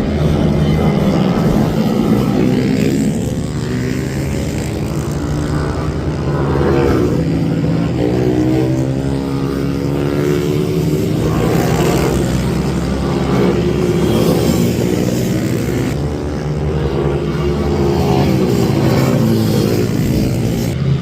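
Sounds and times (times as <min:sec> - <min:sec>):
minibike engines revving: 0:00.0 - 0:21.0.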